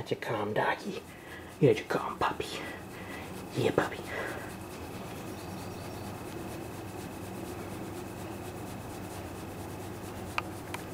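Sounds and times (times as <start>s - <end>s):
faint high whine: 0.0s - 10.9s
hand rubbing dog fur: 0.0s - 10.9s.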